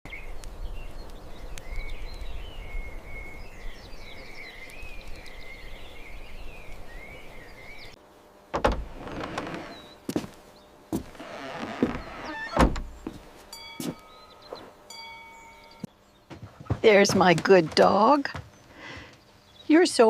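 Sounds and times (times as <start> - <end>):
warbling birdsong: 0.1 - 8.0, 8.6 - 20.0.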